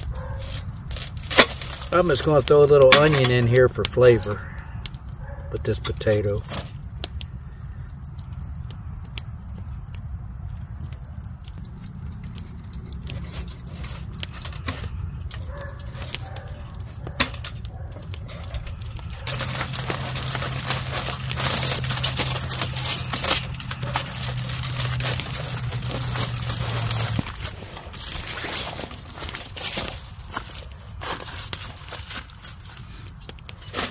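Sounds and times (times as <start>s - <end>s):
campfire crackling: 0.0s - 33.9s
rustling hiss with low hum: 0.0s - 33.9s.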